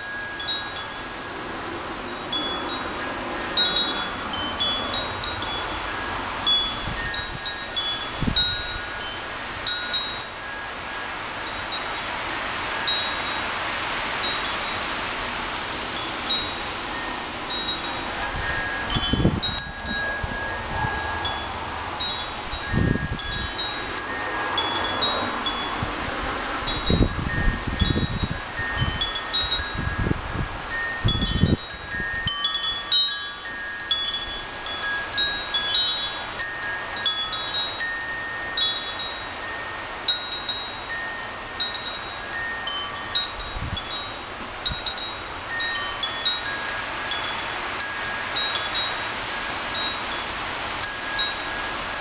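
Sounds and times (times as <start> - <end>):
metal wind chime ringing: 0.0 - 1.4, 2.1 - 13.5, 16.0 - 26.0, 26.6 - 52.0
wind buffeting microphone: 0.0 - 52.0.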